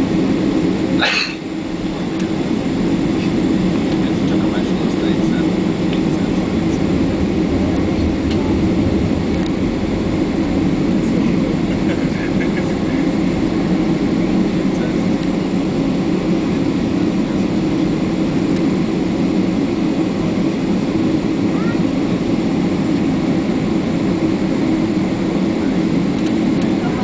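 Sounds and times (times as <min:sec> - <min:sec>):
jet engine cabin rumble: 0:00.0 - 0:27.0.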